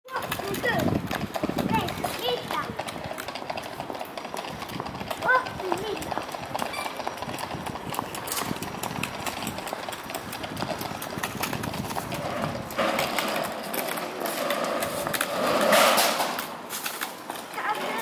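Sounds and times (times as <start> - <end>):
footsteps on stone: 0.1 - 18.0.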